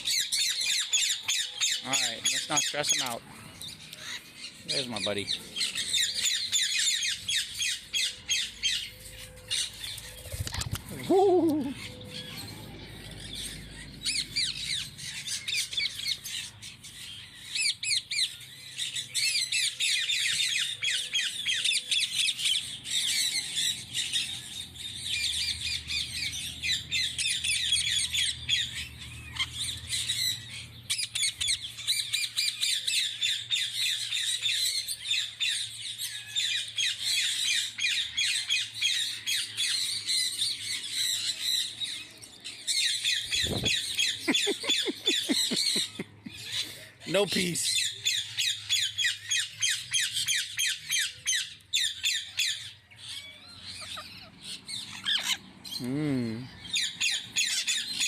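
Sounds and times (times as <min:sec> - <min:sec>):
parrots squawking and chattering: 0:00.0 - 0:58.0.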